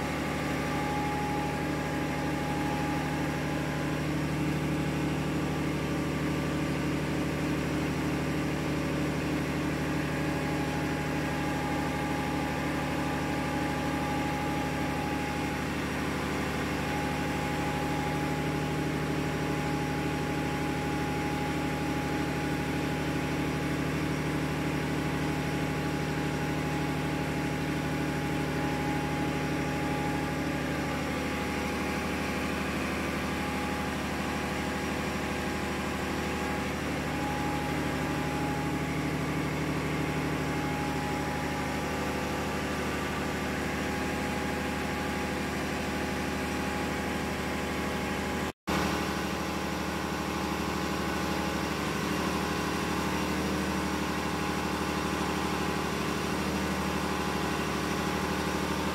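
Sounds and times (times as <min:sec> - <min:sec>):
engine room machinery droning: 0:00.0 - 0:58.9.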